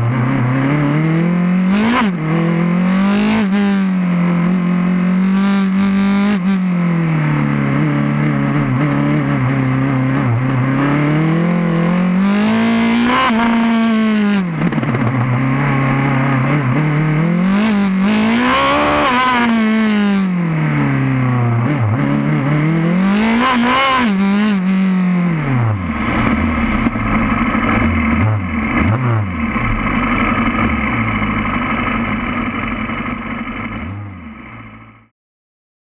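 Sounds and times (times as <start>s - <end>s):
race car engine revving: 0.0s - 34.9s.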